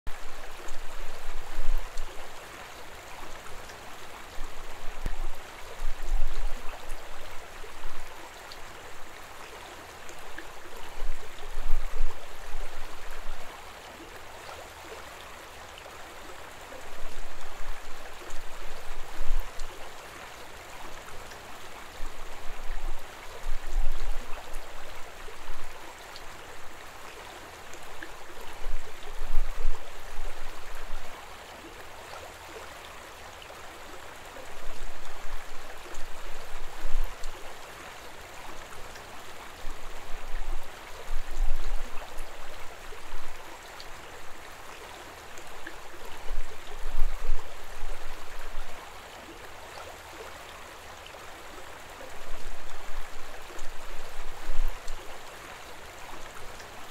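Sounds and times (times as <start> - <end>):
stream rushing over rocks: 0.1 - 56.9.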